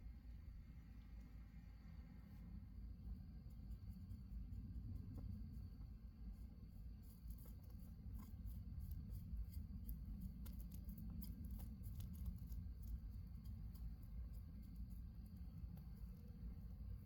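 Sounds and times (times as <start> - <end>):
low rumble of fire: 0.0 - 17.0.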